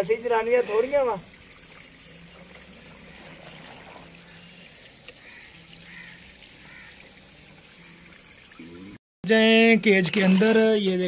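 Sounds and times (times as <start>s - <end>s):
water trickling into trough: 0.0s - 9.0s, 10.0s - 10.9s.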